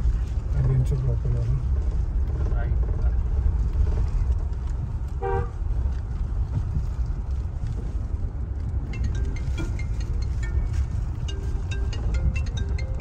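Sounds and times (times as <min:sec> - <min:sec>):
car driving over rough road: 0:00.0 - 0:13.0.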